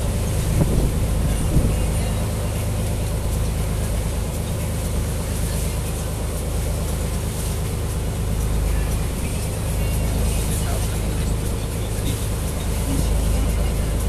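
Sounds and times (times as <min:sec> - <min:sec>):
boat engine humming: 0:00.0 - 0:14.0
water splashing along hull: 0:00.0 - 0:14.0.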